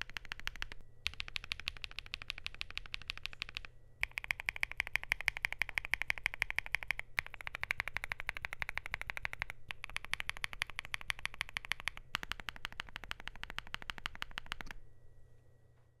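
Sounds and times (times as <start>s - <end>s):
mechanical keyboard typing: 0.0s - 14.8s.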